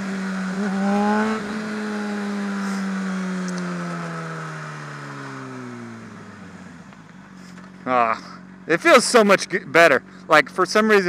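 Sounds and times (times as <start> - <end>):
motorcycle engine slowing: 0.0 - 11.0.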